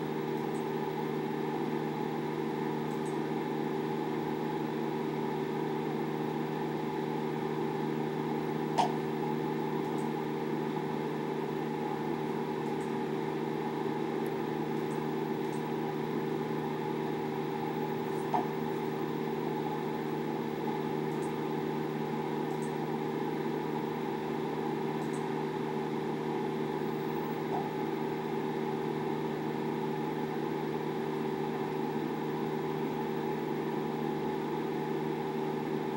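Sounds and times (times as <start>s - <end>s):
steady mechanical hum: 0.0s - 35.9s.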